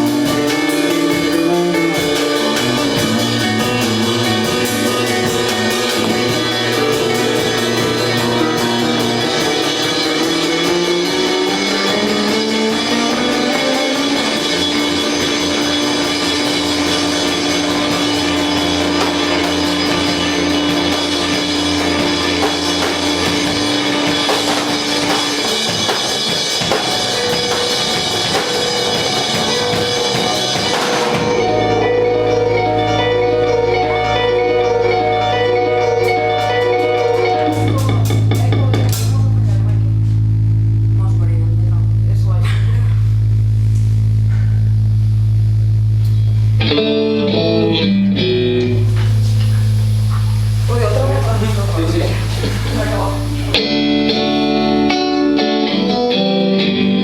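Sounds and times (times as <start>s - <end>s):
drum kit with cymbal wash: 0.0s - 46.6s, 48.4s - 57.0s
bass guitar: 0.0s - 57.0s
distorted electric guitar: 0.0s - 57.0s.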